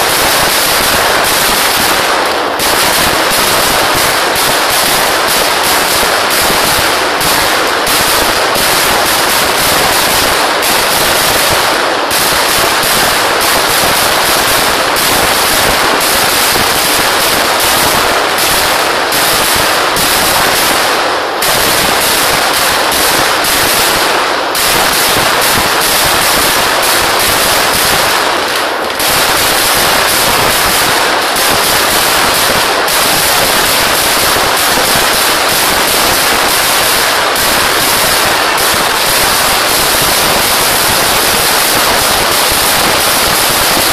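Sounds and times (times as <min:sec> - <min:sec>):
firecracker explosions crackling: 0:00.0 - 0:43.9.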